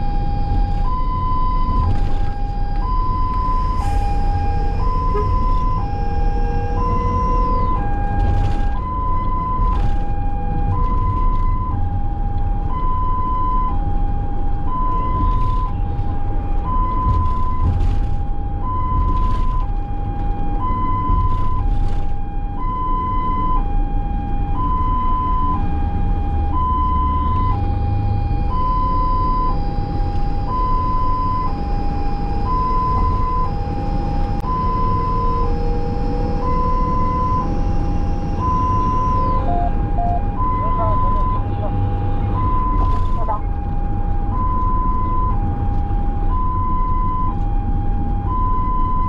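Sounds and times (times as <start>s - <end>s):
ambulance two-tone siren: 0.0s - 49.0s
vehicle engine and road noise: 0.0s - 49.0s.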